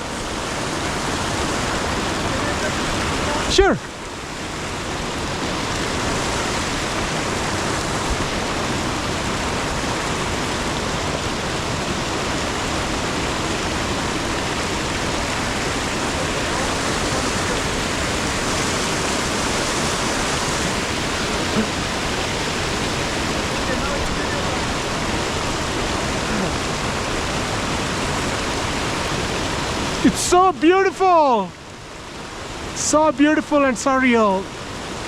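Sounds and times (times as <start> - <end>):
waterfall and stream rushing: 0.0 - 35.0.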